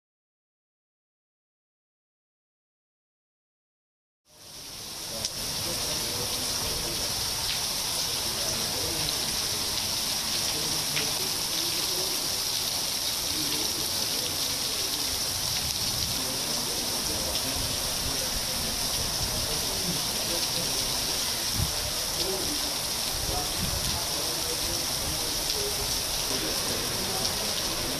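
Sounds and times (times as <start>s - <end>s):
heavy rain on a paved road: 4.3s - 27.9s.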